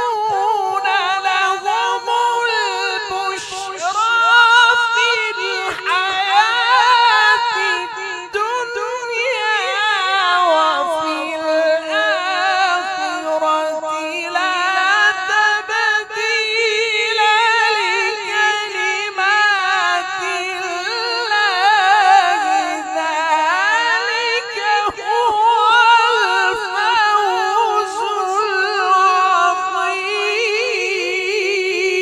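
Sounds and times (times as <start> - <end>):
man chanting into a microphone: 0.0 - 32.0.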